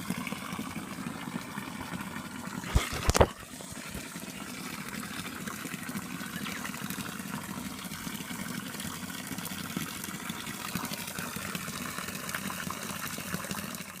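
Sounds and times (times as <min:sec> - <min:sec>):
waterfall splashing into pool: 0:00.0 - 0:14.0.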